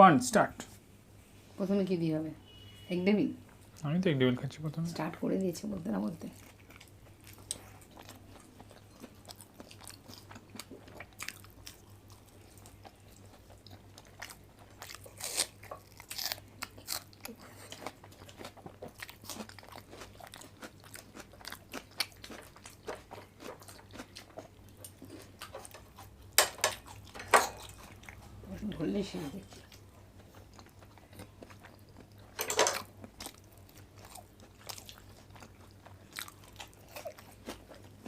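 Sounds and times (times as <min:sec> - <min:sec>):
crunching and chewing food: 0:06.0 - 0:38.0.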